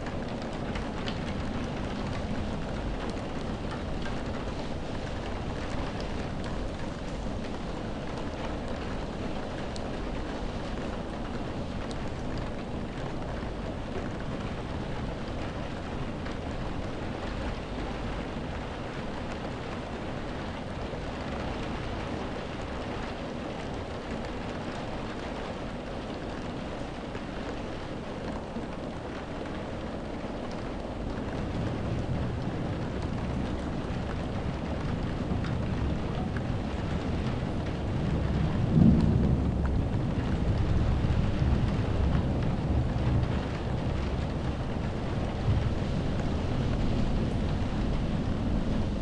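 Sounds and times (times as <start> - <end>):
heavy rain on window glass: 0.0 - 49.0.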